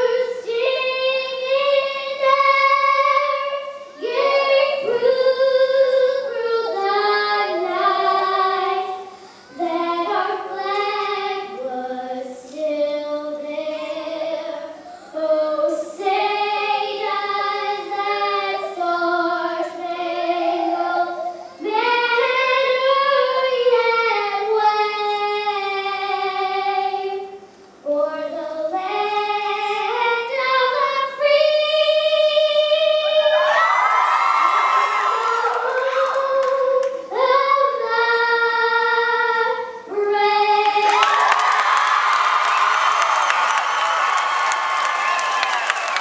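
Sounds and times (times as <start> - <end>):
girl singing into a microphone: 0.0 - 33.9, 34.5 - 41.3.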